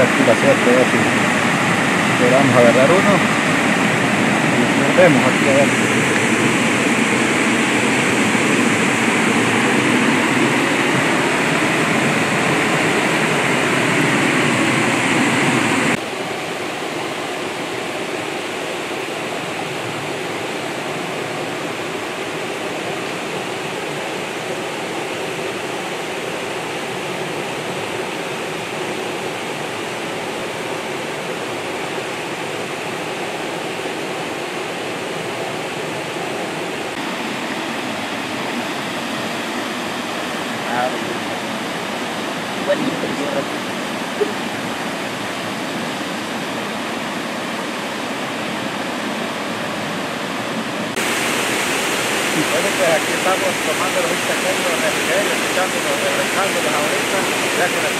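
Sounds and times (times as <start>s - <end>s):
creek water rushing over rocks: 0.0s - 57.9s.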